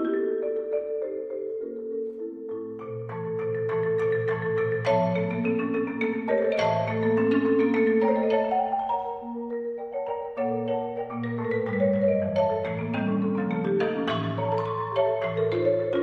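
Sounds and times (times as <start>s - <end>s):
marimba duet: 0.0s - 16.0s.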